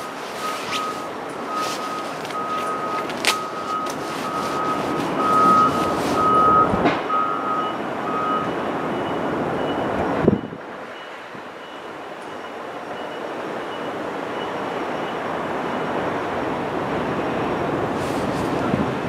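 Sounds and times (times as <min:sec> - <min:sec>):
electronic warning beep: 0:00.0 - 0:16.0.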